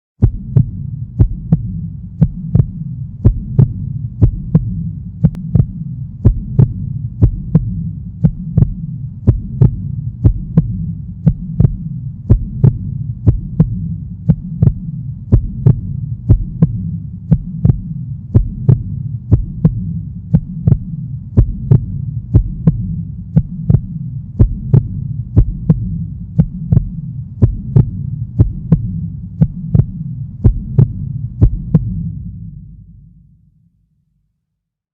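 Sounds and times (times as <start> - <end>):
heartbeat thumps with echo: 0.2 - 33.2
continuous low rumble: 0.2 - 33.4.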